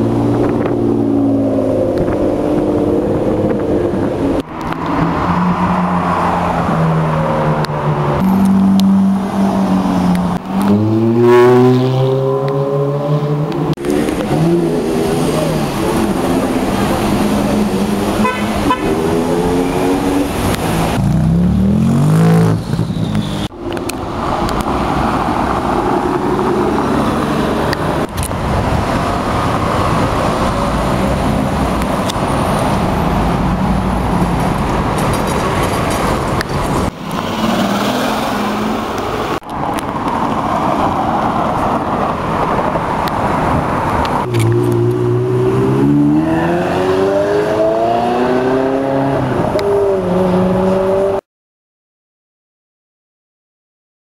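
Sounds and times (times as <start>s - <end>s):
supercar engines revving: 0.0s - 40.2s, 41.8s - 51.2s
street traffic noise: 0.0s - 51.2s.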